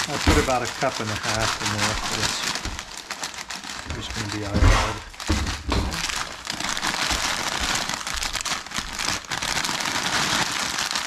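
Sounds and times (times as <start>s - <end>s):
dry noodles crumbling and snapping: 0.0s - 11.0s
plastic bag crinkling: 0.0s - 11.0s.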